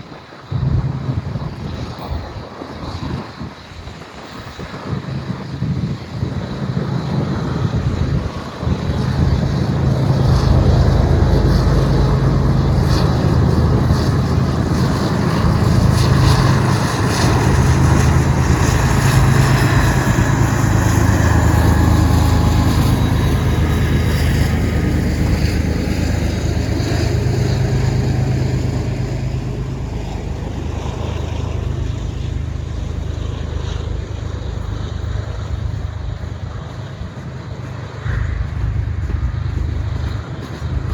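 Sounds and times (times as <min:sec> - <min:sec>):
locomotive engine drone: 0:00.0 - 0:40.9
wheels clicking on rails: 0:07.1 - 0:40.9.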